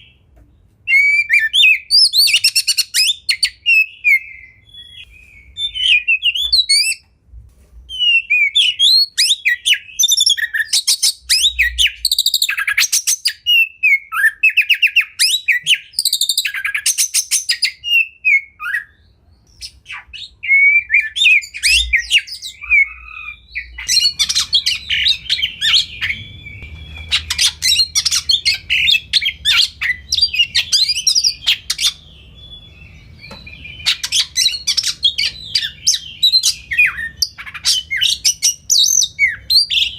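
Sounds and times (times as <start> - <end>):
bird singing whistled phrases: 0.9 - 7.0, 7.9 - 39.9.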